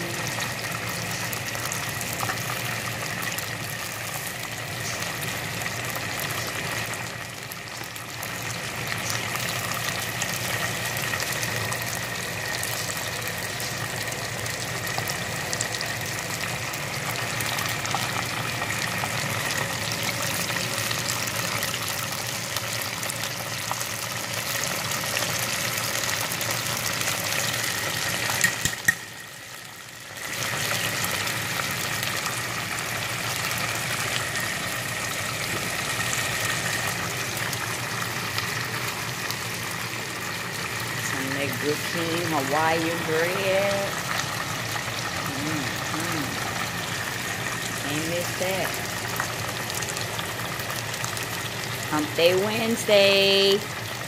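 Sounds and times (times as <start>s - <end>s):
wings deep-frying in oil: 0.0s - 54.0s.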